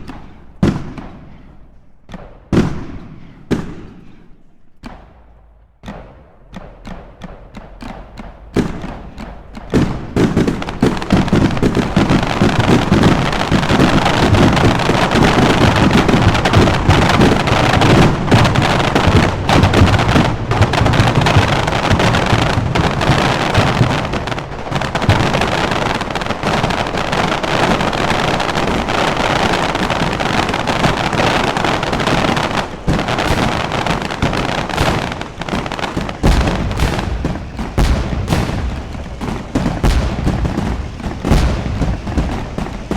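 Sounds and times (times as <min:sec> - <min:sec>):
fireworks exploding: 0:00.0 - 0:42.9.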